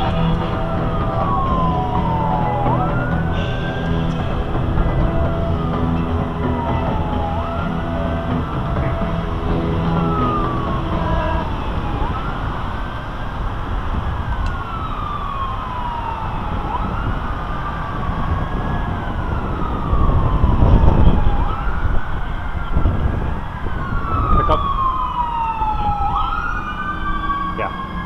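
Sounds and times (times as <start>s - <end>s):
low rumble: 0.0s - 25.1s
emergency siren wailing: 0.0s - 28.0s.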